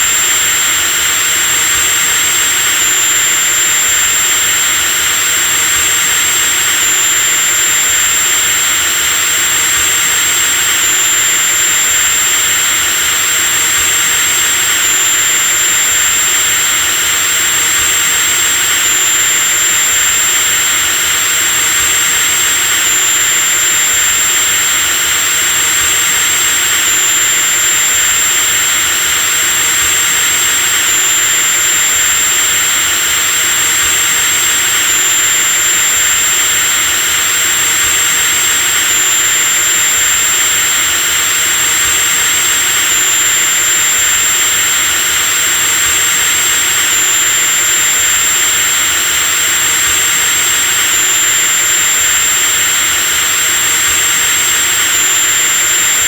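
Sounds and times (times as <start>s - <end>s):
electric drill running: 0.0s - 56.0s.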